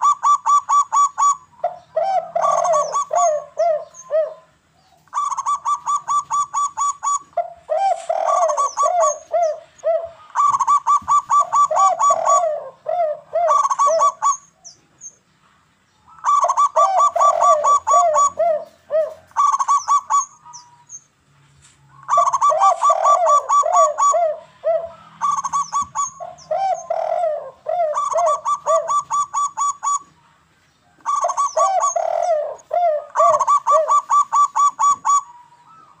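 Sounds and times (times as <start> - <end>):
doves cooing: 0.0 - 15.0, 16.1 - 20.8, 22.0 - 36.0.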